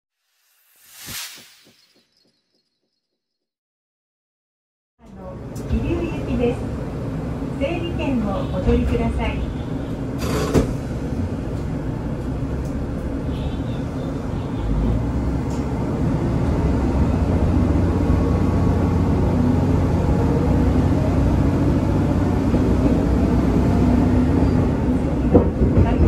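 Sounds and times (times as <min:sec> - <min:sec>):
diesel railcar engine rumble: 0:05.0 - 0:26.0.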